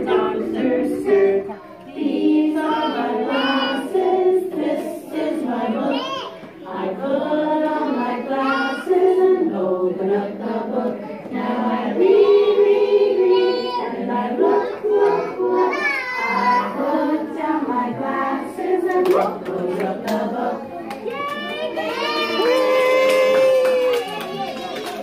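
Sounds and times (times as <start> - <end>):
children singing: 0.0 - 22.6.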